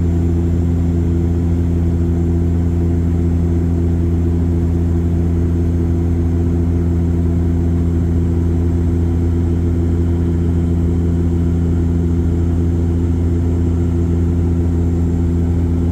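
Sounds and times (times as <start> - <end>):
airliner cabin engine drone: 0.0 - 15.9.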